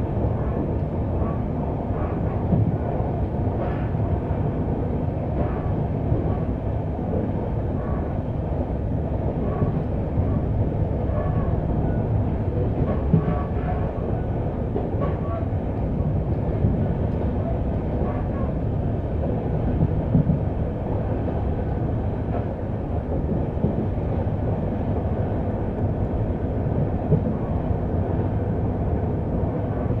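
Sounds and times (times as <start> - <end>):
rumble of wheels on rail: 0.0 - 30.0.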